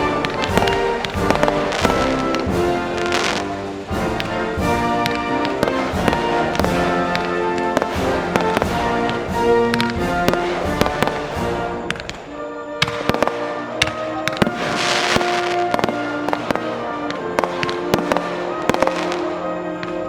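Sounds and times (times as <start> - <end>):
background music with held chords: 0.0 - 20.0
fireworks banging and crackling: 0.0 - 20.0.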